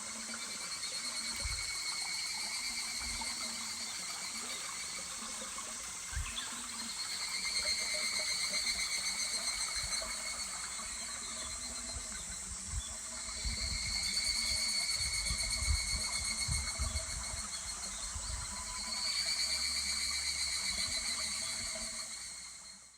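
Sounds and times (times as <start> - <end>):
small stream murmuring: 0.0 - 22.8
cicadas calling: 0.0 - 22.9.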